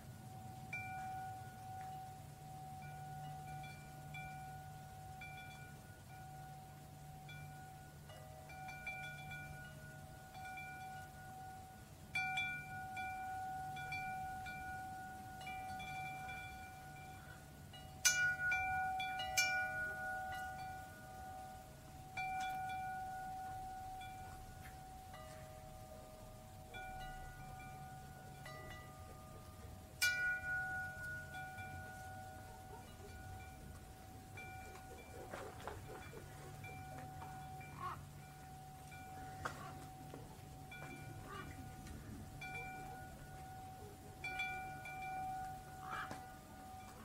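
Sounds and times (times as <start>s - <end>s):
metal tube wind chime ringing: 0.0s - 47.0s.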